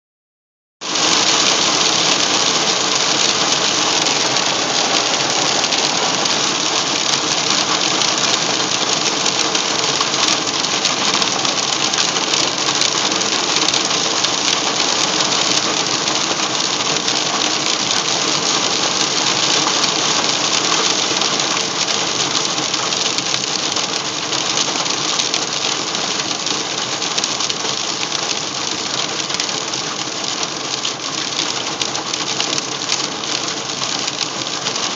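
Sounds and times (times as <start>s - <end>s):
hail and rain on vehicle roof: 0.8s - 34.9s.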